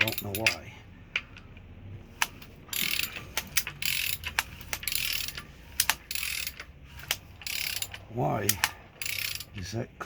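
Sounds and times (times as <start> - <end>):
ratchet wrench clicking: 0.0 - 9.7.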